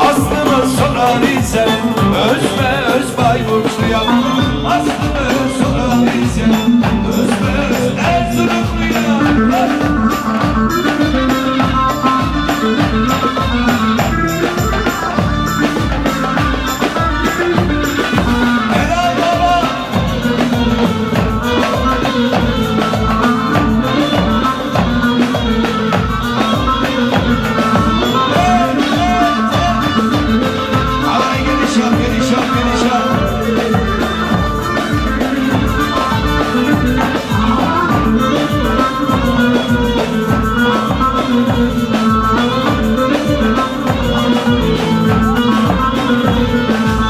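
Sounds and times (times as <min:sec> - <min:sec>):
bass drum beating fast rhythm: 0:00.0 - 0:47.0
sustained melody line: 0:00.0 - 0:47.0.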